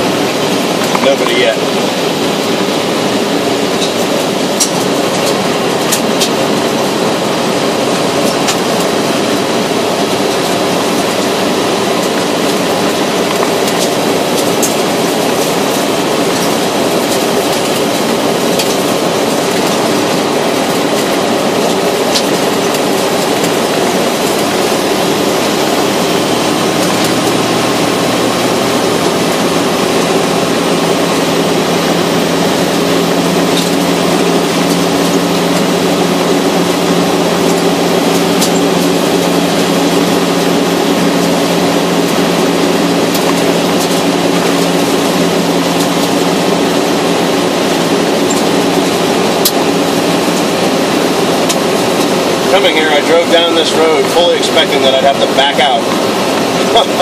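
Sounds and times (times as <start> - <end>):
tyres rumbling on gravel: 0.0 - 57.0
vehicle engine: 0.0 - 57.0.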